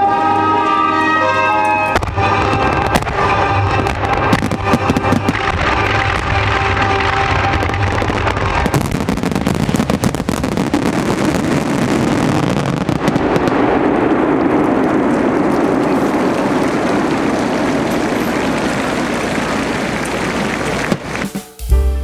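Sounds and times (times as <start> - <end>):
fireworks cracking and popping: 0.6 - 21.7
fireworks crackling hiss: 1.9 - 21.7.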